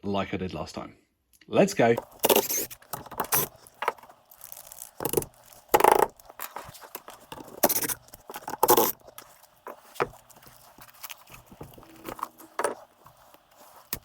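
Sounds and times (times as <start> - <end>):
quiet rustling: 1.9 - 14.0
scraping and rubbing: 2.0 - 14.0.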